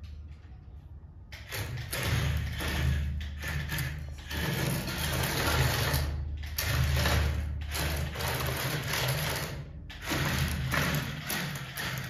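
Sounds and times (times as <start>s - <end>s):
toy excavator motor whirring: 1.4s - 12.0s.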